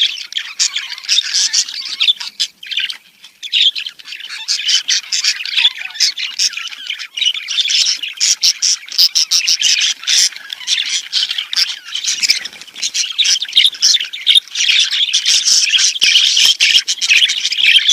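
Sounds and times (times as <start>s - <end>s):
budgerigars chattering: 0.0s - 17.9s.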